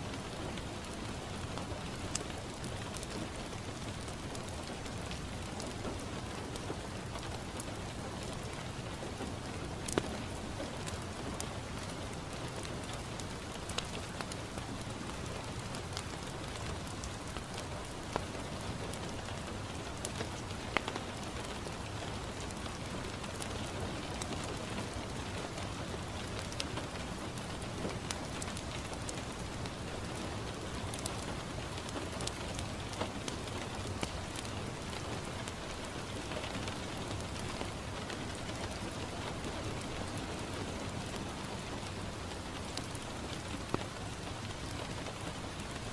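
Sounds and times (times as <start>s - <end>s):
rain on a window: 0.0s - 45.9s
wood fire crackling: 0.1s - 45.9s.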